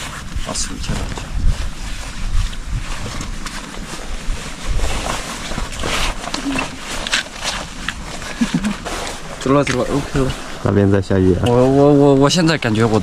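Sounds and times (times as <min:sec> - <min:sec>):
waterproof trousers rustling: 0:00.0 - 0:13.0.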